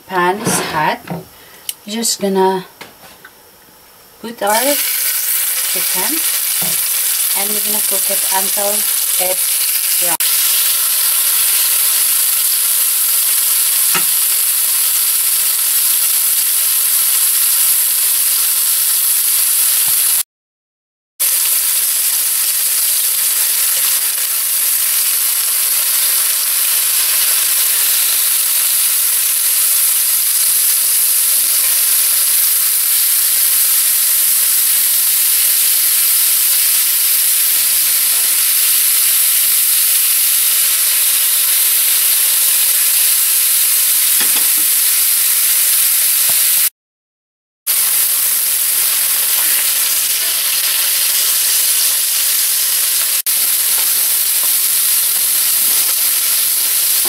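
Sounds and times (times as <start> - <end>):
meat sizzling in hot oil: 4.4 - 20.2, 21.2 - 46.7, 47.7 - 57.0.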